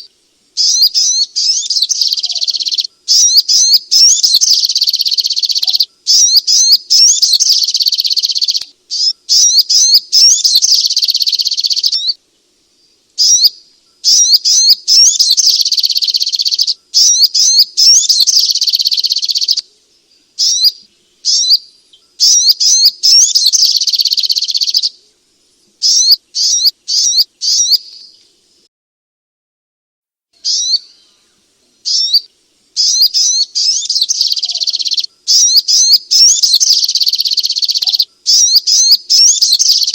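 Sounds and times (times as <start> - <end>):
bird high-pitched rapid chirping: 0.0 - 12.2, 13.2 - 19.6, 20.4 - 25.0, 25.8 - 28.2, 30.4 - 31.1, 31.8 - 39.9.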